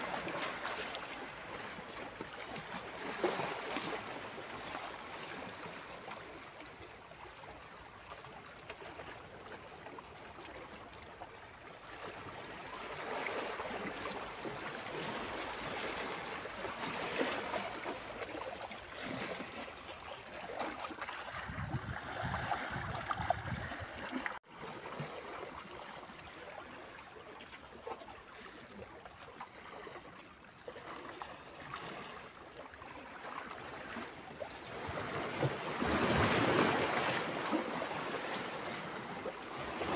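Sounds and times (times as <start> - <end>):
waves lapping on boulders: 0.0 - 39.9.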